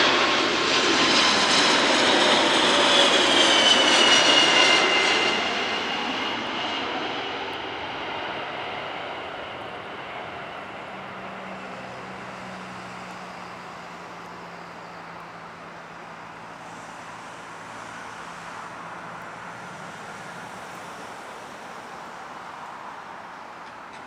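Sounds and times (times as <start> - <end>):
jet engine rushing with low hum: 0.0 - 24.0.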